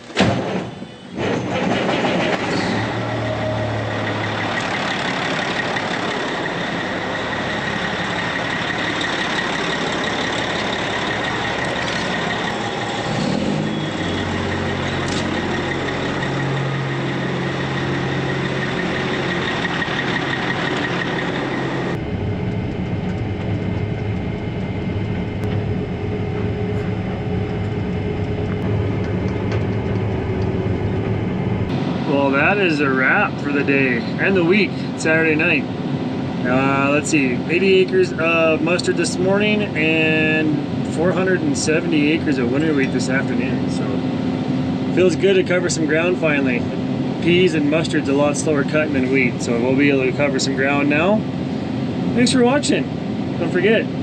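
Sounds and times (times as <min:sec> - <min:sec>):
heavy vehicle engine hum: 0:00.0 - 0:54.0.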